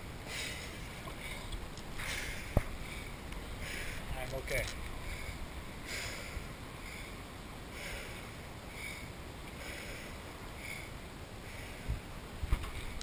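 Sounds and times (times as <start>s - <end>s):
heavy breathing: 0.2s - 13.0s.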